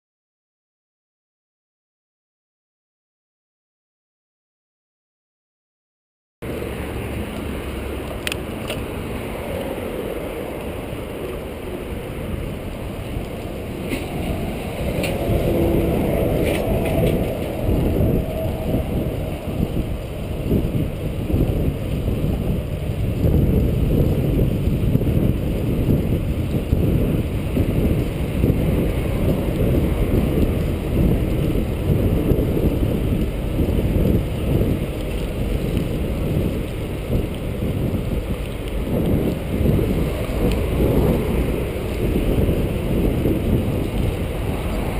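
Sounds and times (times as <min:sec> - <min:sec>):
bicycle tyres rumbling: 0:06.4 - 0:44.9
wind rushing over microphone: 0:06.4 - 0:44.9.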